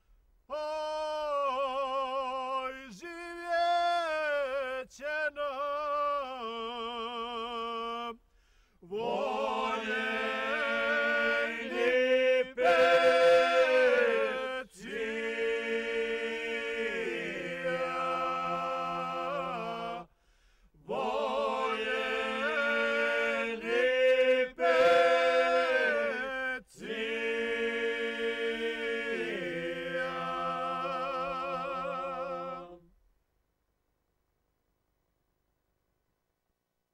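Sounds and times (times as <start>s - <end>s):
voices singing a cappella: 0.5s - 8.2s, 8.8s - 20.2s, 20.8s - 32.9s.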